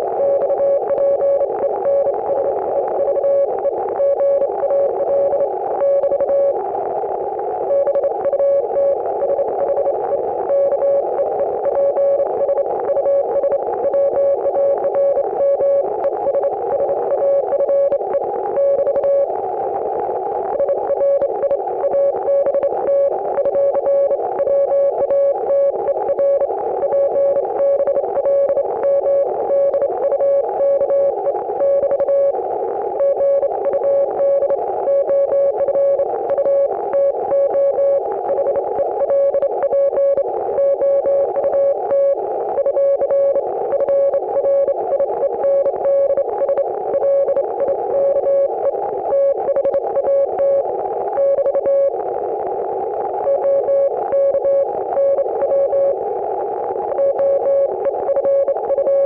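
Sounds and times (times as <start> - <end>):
radio static: 0.0 - 59.0
morse code beeps: 0.1 - 6.6, 7.6 - 32.4, 33.0 - 52.0, 53.2 - 56.0, 56.8 - 59.0.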